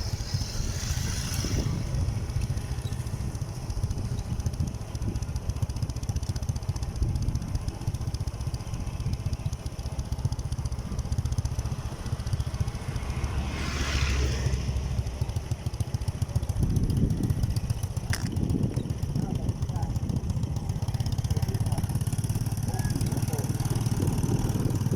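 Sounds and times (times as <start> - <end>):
motorcycle engine rumbling: 0.0 - 24.9.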